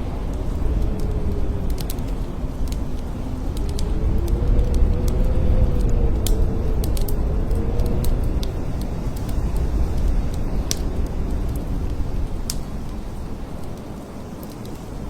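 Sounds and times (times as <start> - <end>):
blizzard wind rumbling: 0.0 - 15.0
faint wind howling: 0.0 - 15.0
light scattered ticks: 0.0 - 15.0.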